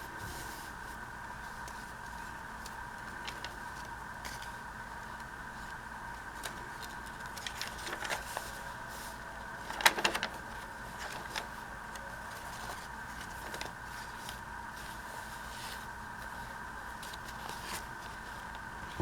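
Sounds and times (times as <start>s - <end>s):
paper and craft pieces rustling: 0.1s - 18.4s.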